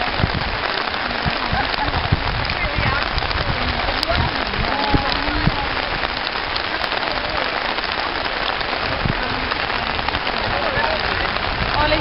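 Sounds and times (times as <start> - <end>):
faint voices: 0.0 - 12.0
rushing noise on microphone: 0.0 - 12.0.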